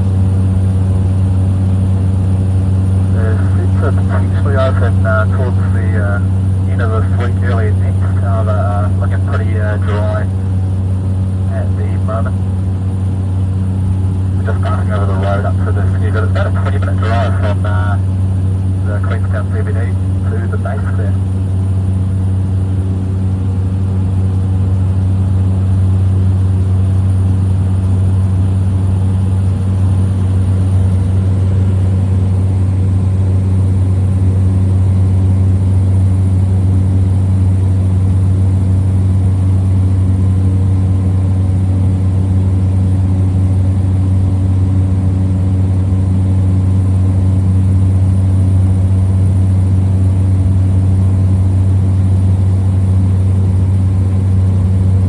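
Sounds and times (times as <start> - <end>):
small plane engine droning: 0.0 - 55.0.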